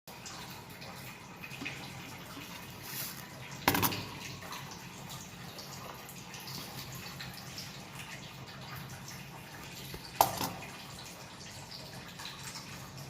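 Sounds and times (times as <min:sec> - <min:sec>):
water running or dripping: 0:00.1 - 0:13.0.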